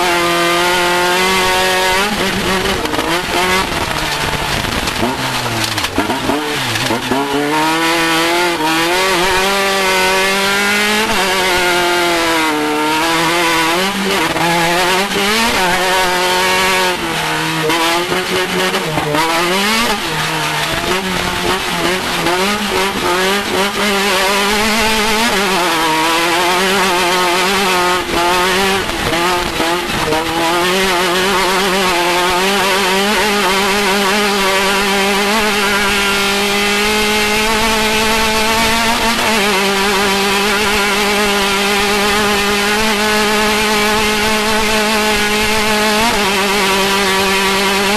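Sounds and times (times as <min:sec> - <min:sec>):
race car engine revving: 0:00.0 - 0:47.9.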